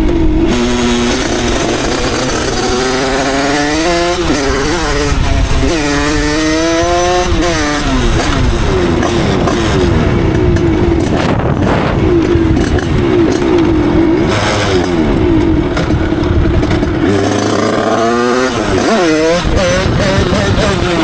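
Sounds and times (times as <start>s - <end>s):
moped engine revving: 0.0s - 21.0s.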